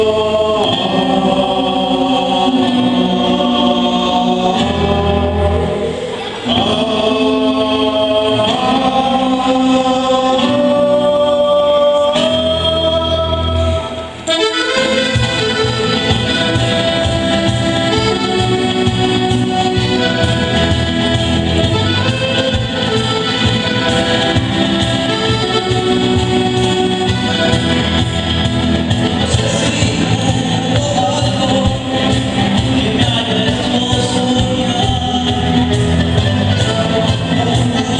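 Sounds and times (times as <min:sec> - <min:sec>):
live band with accordion chords: 0:00.0 - 0:37.9.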